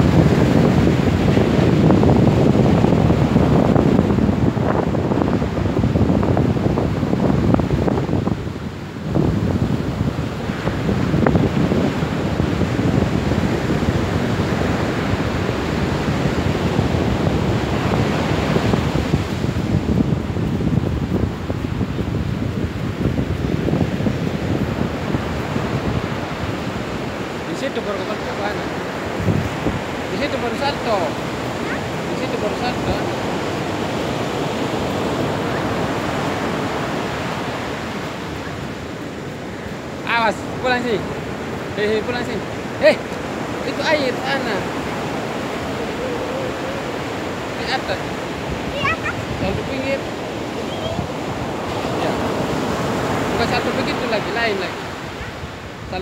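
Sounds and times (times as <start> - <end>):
ocean surf washing onto beach: 0.0 - 56.0
wind buffeting microphone: 0.0 - 56.0.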